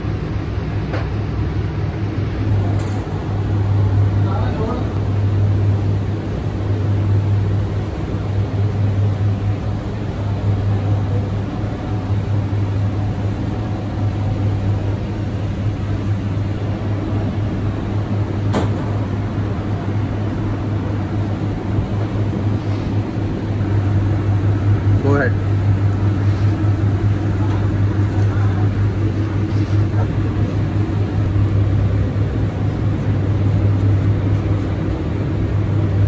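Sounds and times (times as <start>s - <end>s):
kitchen equipment humming: 0.0s - 36.0s.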